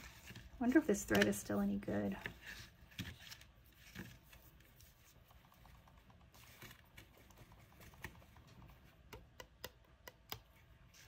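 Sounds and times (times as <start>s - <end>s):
faint clicks and rustles of thread: 0.0s - 9.2s.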